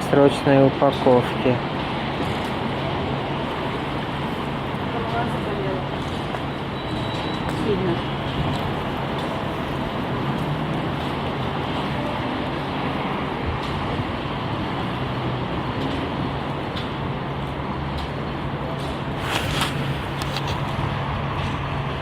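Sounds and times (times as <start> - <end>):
rain on wet street: 0.0 - 22.0
road traffic: 0.0 - 22.0.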